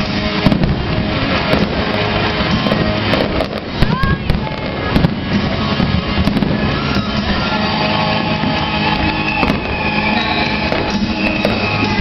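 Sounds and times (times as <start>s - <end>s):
fireworks bursting and crackling: 0.0s - 12.0s
music playing: 0.0s - 12.0s
sharp bangs: 0.0s - 12.0s.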